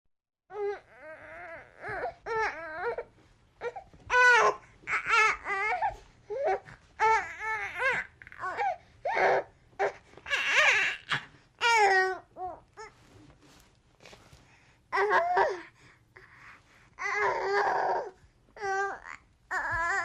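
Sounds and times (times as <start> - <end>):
baby crying: 0.5 - 12.9, 14.9 - 15.7, 17.0 - 20.0.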